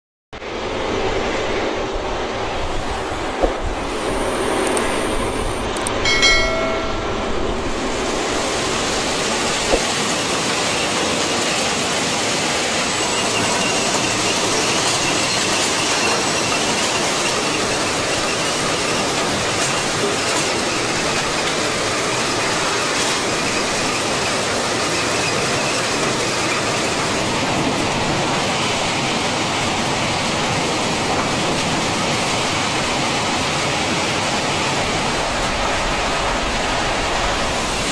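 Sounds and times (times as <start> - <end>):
heavy rail machinery rumbling: 0.4 - 37.9.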